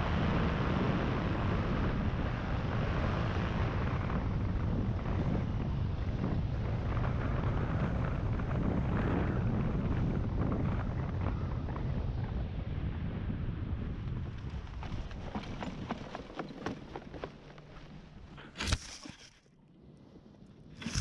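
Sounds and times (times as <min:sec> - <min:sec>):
wind rushing over microphone: 0:00.0 - 0:17.3, 0:20.7 - 0:21.0.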